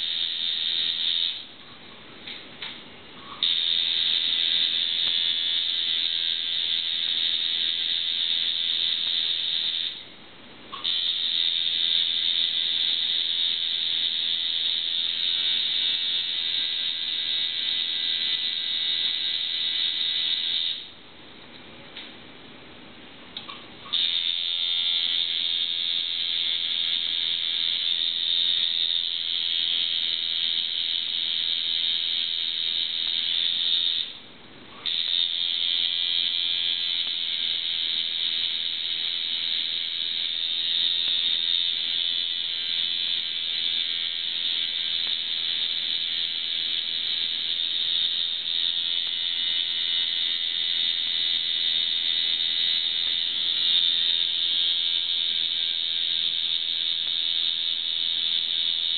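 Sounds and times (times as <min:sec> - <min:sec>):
tattoo machine buzzing: 0:00.0 - 0:01.4, 0:03.4 - 0:10.0, 0:10.7 - 0:20.9, 0:23.8 - 0:34.2, 0:34.8 - 0:58.9.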